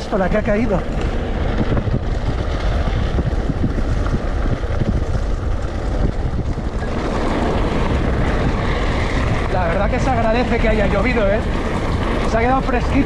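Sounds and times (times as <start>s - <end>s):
electric bike rumble: 0.0s - 13.0s
wind buffeting microphone: 0.0s - 13.0s.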